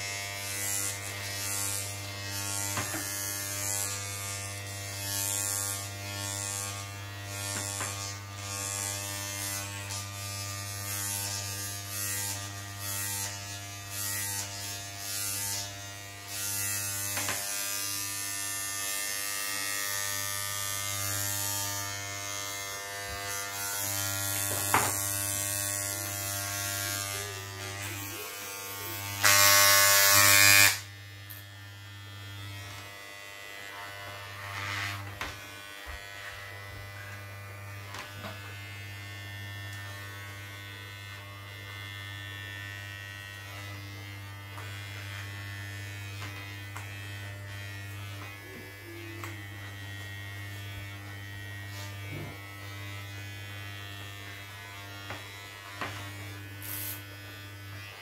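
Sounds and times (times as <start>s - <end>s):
electric hair clippers buzzing: 0.0s - 58.0s.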